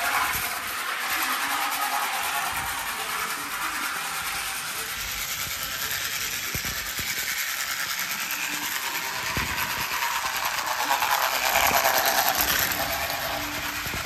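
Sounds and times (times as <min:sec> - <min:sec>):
toy train motor whirring: 0:00.0 - 0:14.0.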